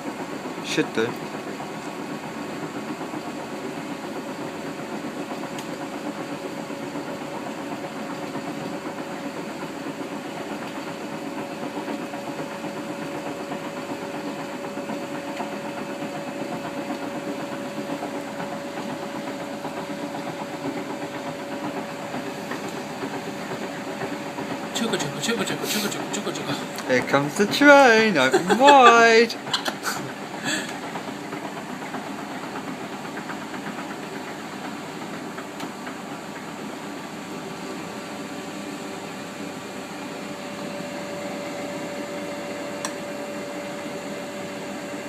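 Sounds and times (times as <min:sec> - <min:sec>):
washing machine draining: 0:00.0 - 0:45.0.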